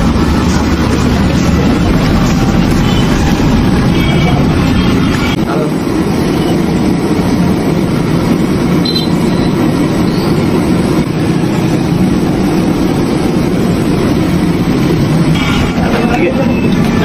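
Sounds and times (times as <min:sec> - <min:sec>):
steady low roar: 0:00.0 - 0:16.2.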